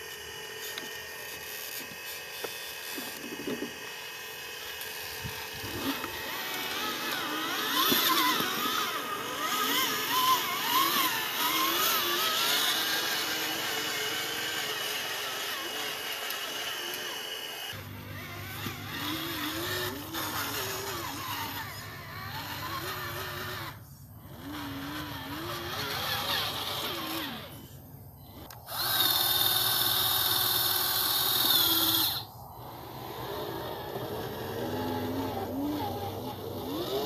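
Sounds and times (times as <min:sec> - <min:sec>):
electric motor and gearbox whining: 0:00.0 - 0:37.0.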